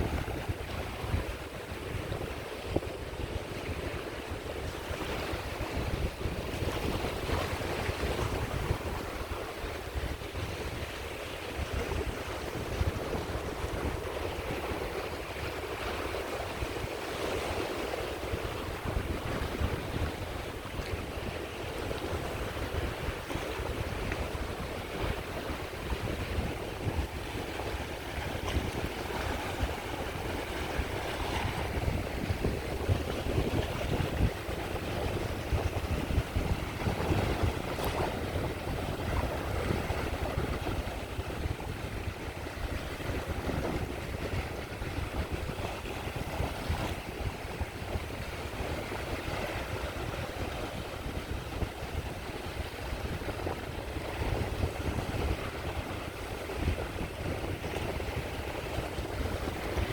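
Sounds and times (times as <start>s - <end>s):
sea waves breaking on shore: 0.0s - 59.9s
wind rumble on microphone: 0.0s - 59.9s.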